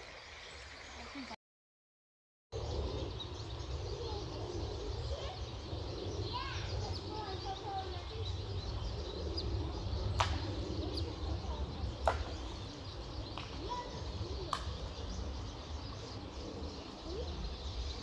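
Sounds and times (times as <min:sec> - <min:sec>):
faint bird chirps: 0:00.0 - 0:01.4, 0:02.6 - 0:18.0.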